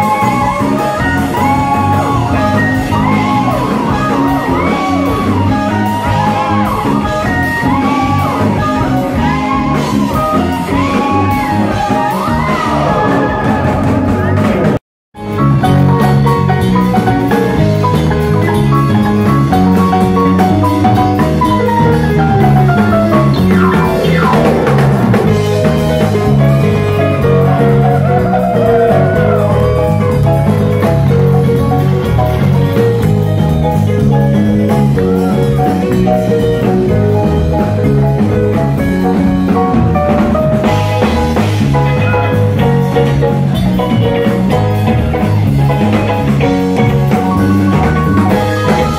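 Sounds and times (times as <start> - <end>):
bass guitar: 0.0 - 48.9
drum kit: 0.0 - 48.9
electric guitars: 0.0 - 48.9
keyboards: 0.0 - 48.9
pitch-bending lead line: 0.0 - 48.9.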